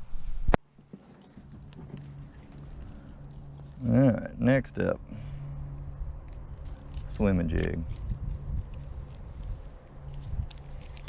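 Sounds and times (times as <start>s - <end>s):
low handling rumble: 0.0s - 11.0s.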